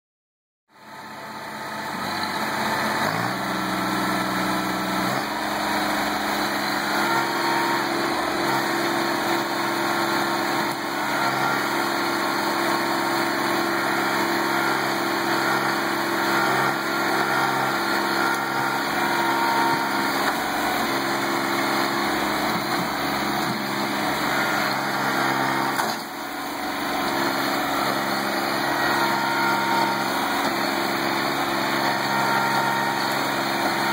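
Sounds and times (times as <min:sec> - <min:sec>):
tractor diesel engine under load: 0:00.7 - 0:33.9.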